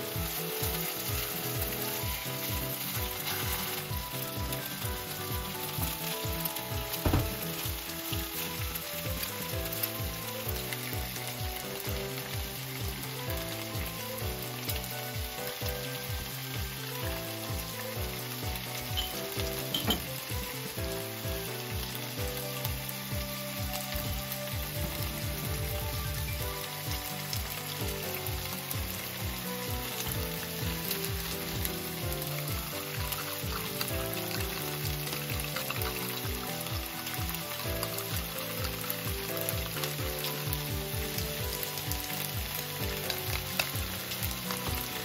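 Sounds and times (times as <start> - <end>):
background music with steady beat: 0.0 - 45.0
food sizzling in a frying pan: 0.0 - 45.0.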